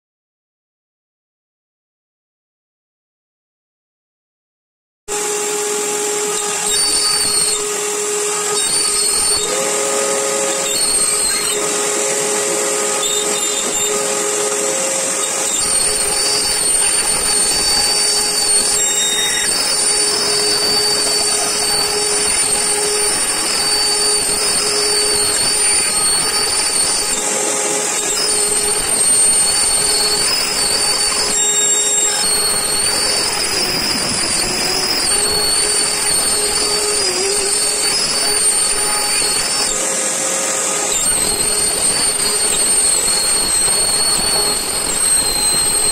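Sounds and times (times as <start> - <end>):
cnc router milling wood: 5.1 - 45.9
shop vacuum running: 5.1 - 45.9.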